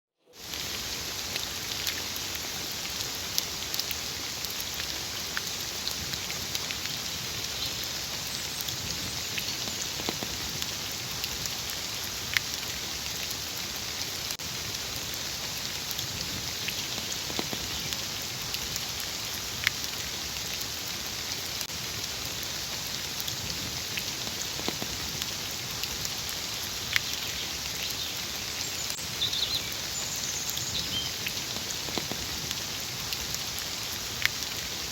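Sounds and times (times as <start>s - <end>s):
light rain pattering: 0.3s - 34.9s
single raindrops striking: 0.4s - 34.9s.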